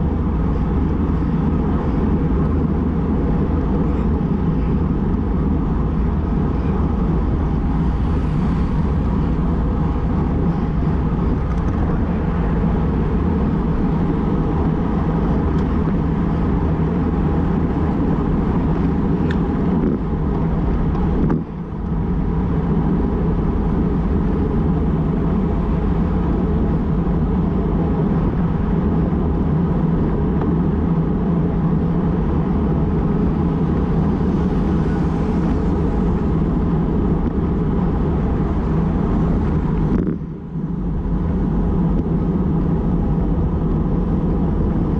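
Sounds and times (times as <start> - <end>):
road traffic noise: 0.0 - 44.9
wind rumble on microphone: 0.0 - 44.9.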